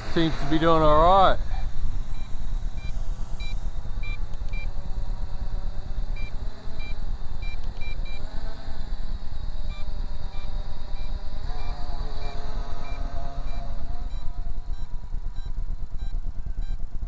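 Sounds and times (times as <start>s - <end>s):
faint drone motor whine: 0.0s - 17.0s
steady low rumble: 0.0s - 17.0s.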